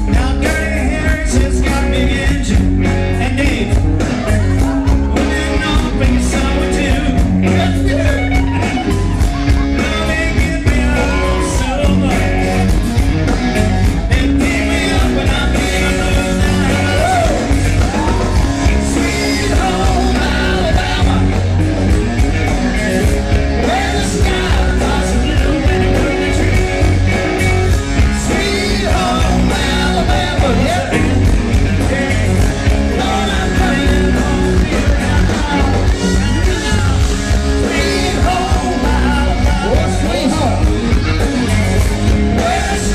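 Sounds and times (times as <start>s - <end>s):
man singing: 0.0s - 12.8s, 13.6s - 21.8s, 22.7s - 40.8s, 42.0s - 42.9s
bass and drum beat: 0.0s - 42.9s
distorted electric guitar: 0.0s - 42.9s.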